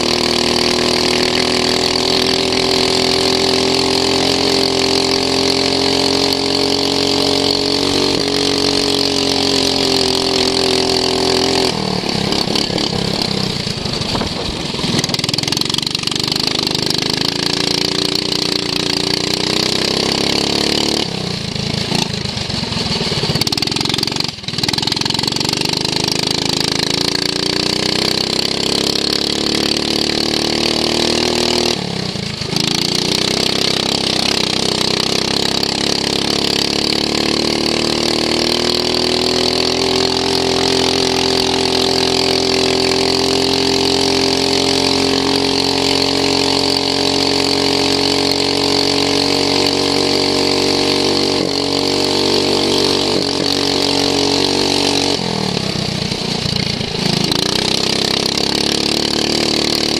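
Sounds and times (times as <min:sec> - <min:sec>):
racing lawn mower engine: 0:00.0 - 0:59.9.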